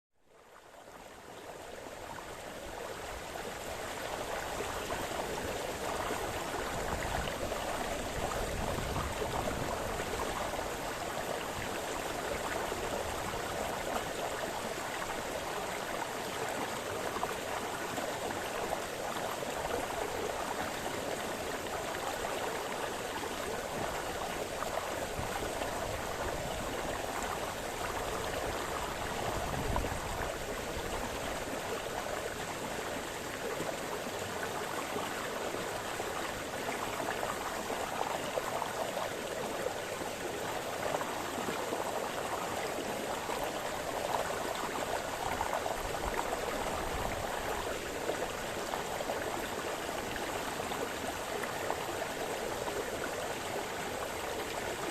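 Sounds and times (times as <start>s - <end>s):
brook babbling over stones: 0.2s - 54.9s.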